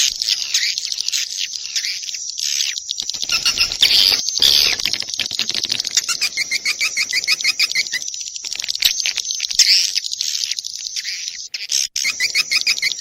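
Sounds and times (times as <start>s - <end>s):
swiftlets twittering: 0.0s - 13.0s.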